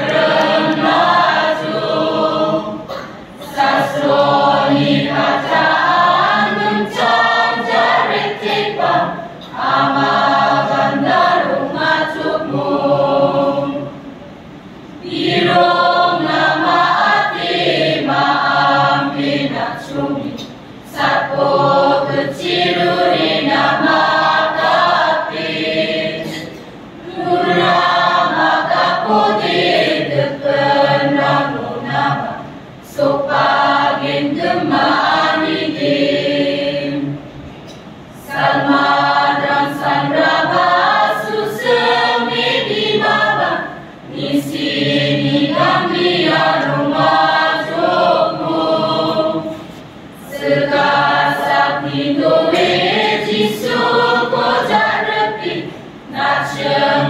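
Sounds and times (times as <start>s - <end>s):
youth choir singing: 0.0s - 57.0s.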